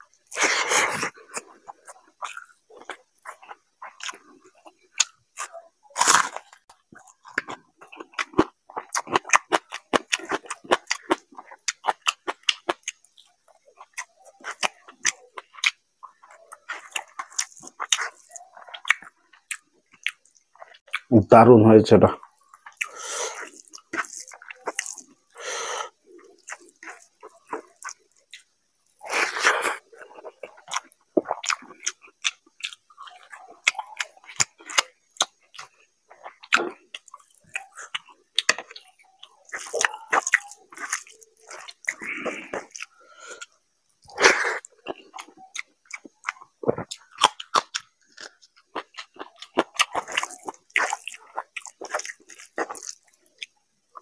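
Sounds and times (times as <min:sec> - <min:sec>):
chewing and lip smacking: 0:00.0 - 0:21.1, 0:22.2 - 0:54.0.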